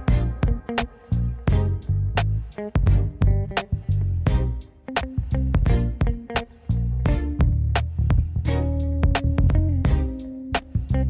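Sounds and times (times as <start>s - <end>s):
bass guitar: 0.0s - 11.0s
plucked guitar: 0.0s - 11.0s
steady beat with sharp percussion: 0.0s - 11.0s.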